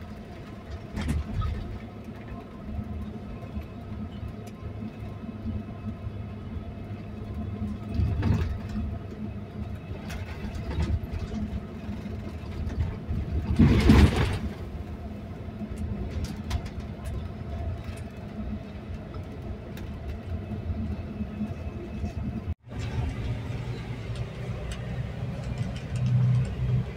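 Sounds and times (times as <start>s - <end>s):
bus engine and road rumble: 0.0s - 26.9s.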